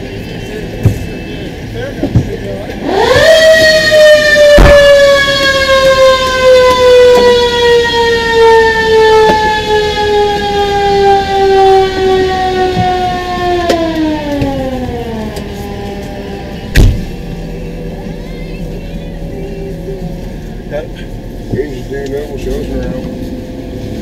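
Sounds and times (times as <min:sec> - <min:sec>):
fire engine siren wailing: 0:00.0 - 0:24.0.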